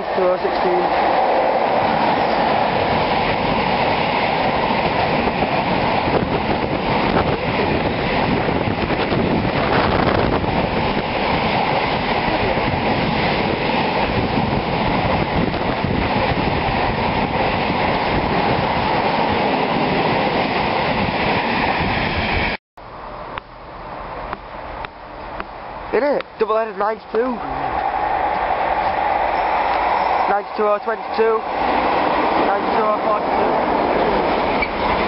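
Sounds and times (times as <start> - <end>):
freight train wheels on rail: 0.0 - 35.0.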